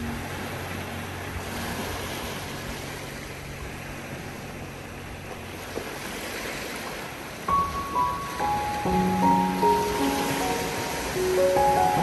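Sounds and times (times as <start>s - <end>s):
waves washing onto shore: 0.0s - 12.0s.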